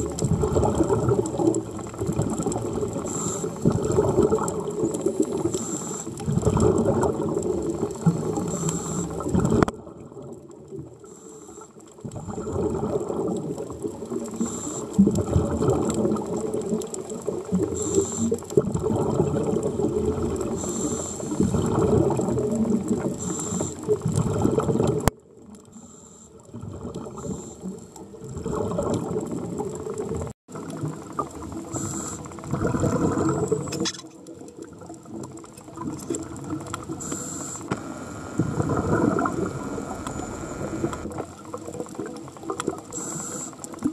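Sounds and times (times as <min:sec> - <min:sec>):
underwater bubbles rumbling: 0:00.0 - 0:11.1, 0:11.8 - 0:25.8, 0:26.4 - 0:43.9.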